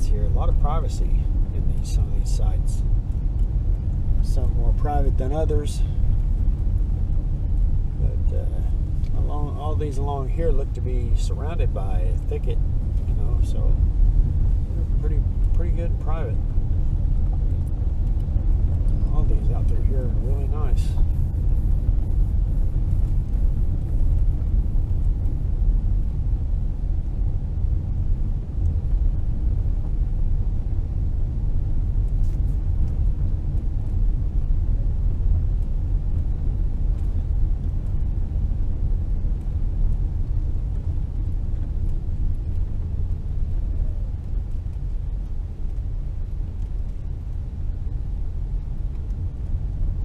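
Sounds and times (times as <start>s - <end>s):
car engine and tyres rumbling: 0.0s - 50.0s.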